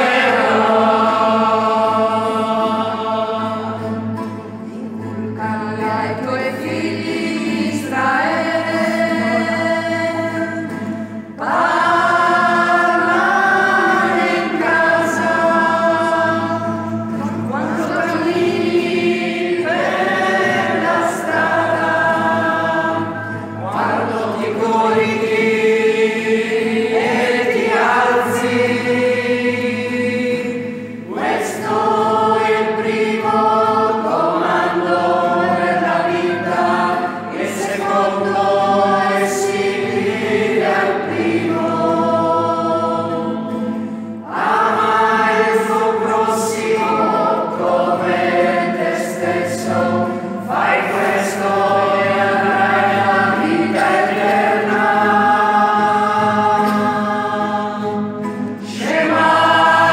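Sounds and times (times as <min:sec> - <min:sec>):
group singing a hymn: 0:00.0 - 0:59.9
guitar accompaniment: 0:00.0 - 0:59.9.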